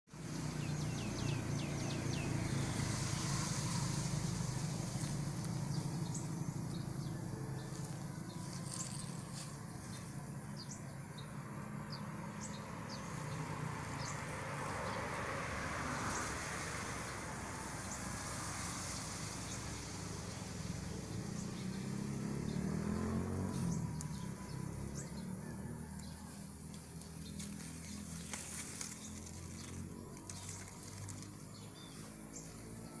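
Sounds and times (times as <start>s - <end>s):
small birds chirping: 0.1s - 15.4s, 17.8s - 33.0s.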